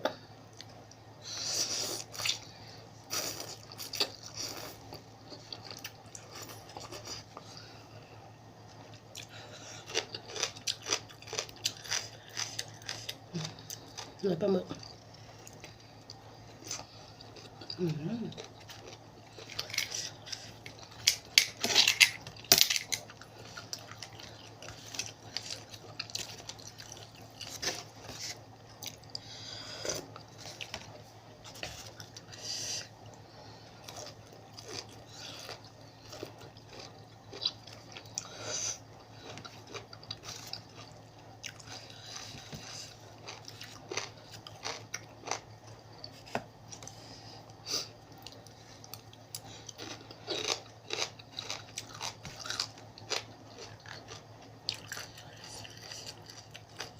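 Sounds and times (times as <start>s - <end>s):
person chewing and crunching food: 0.0s - 56.9s.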